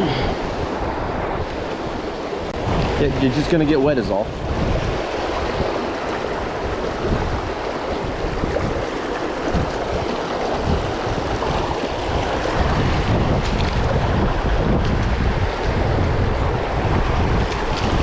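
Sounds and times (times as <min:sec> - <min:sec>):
water rushing: 0:00.0 - 0:18.0
wind buffeting microphone: 0:00.0 - 0:18.0.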